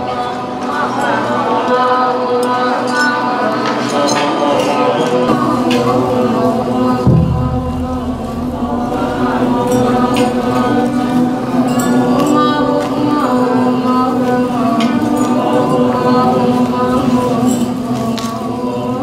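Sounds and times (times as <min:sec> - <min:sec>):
voices chanting together: 0:00.0 - 0:19.0.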